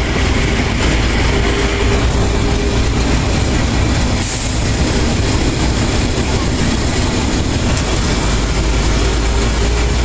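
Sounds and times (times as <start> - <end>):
vehicle engine and tyres rumbling: 0.0 - 10.0.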